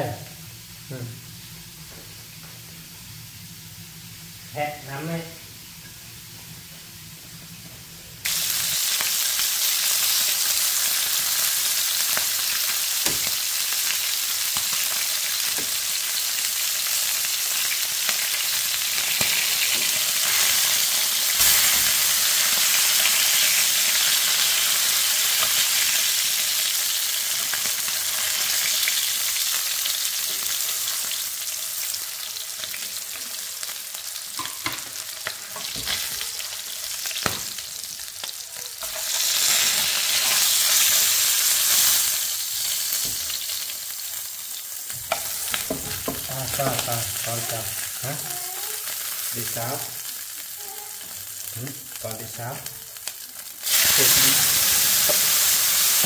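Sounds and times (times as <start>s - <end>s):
food sizzling in hot oil: 8.2s - 56.0s.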